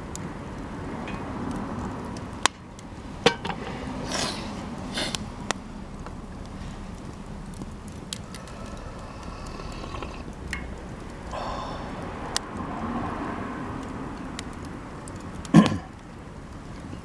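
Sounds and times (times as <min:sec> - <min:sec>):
campfire crackling and popping: 0:00.0 - 0:17.0
low background rumble: 0:01.8 - 0:17.0.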